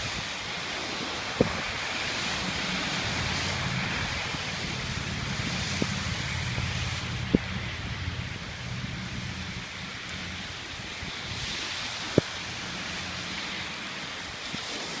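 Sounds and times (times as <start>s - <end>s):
heavy rain and runoff water: 0.0s - 15.0s.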